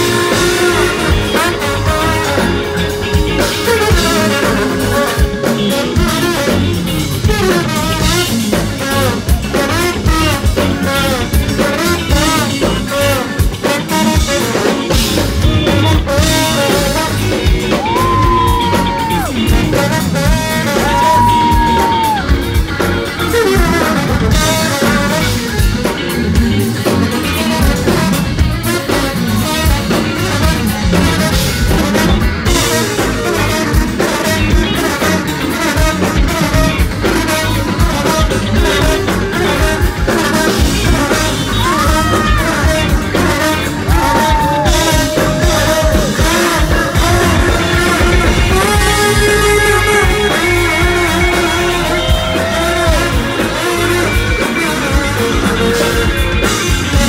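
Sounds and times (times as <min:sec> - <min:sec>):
drum kit: 0:00.0 - 0:57.0
electric guitar: 0:00.0 - 0:57.0
trombone: 0:00.0 - 0:57.0.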